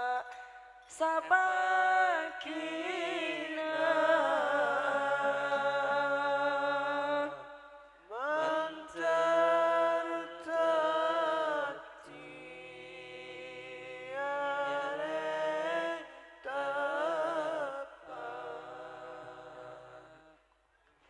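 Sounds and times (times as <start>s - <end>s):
men singing a cappella: 0.0s - 20.4s.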